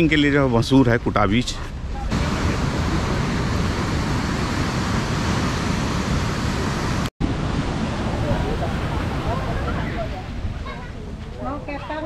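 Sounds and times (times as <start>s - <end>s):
wind: 0.0s - 12.0s
surf rushing: 1.8s - 12.0s.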